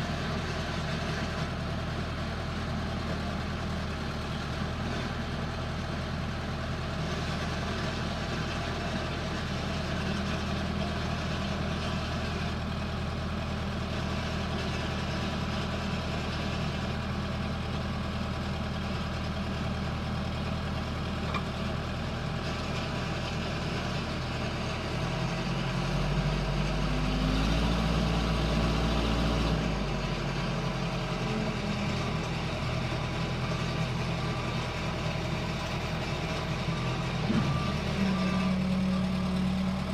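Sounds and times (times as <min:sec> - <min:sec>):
diesel engine idling and revving: 0:00.0 - 0:39.9.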